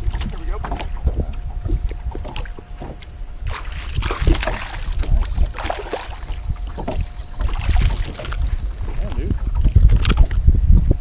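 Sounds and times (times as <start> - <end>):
water splashes: 0.0 - 10.5
water slapping against boat hull: 0.0 - 11.0
wind buffeting microphone: 0.0 - 11.0.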